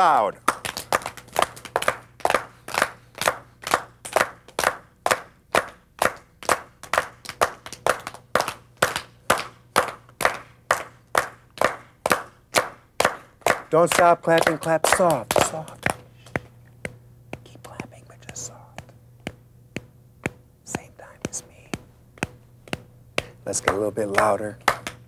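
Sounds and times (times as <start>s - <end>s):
people clapping in a steady beat: 0.0s - 25.0s.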